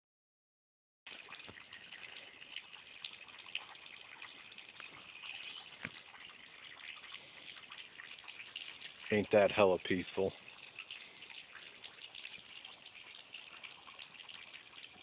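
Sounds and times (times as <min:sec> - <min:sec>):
creek water running: 0:01.1 - 0:15.0.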